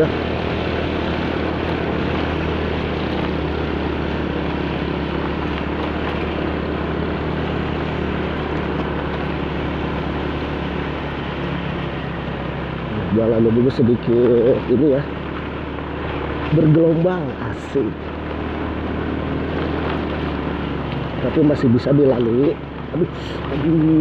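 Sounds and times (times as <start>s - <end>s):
road and wind noise: 0.0s - 24.0s
small motorcycle engine running: 0.0s - 24.0s.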